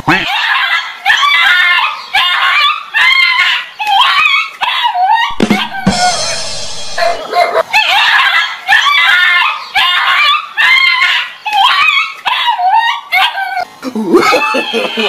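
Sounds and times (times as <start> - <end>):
dog yelping and barking: 0.2 - 13.7.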